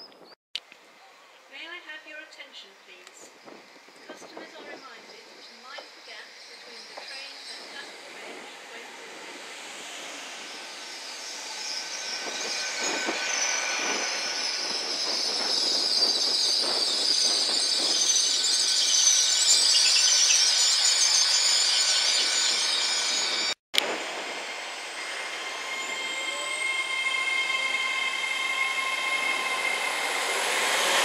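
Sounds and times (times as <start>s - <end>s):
train rolling rumble: 1.5s - 31.0s
train wheels squealing: 3.6s - 23.6s, 24.4s - 31.0s.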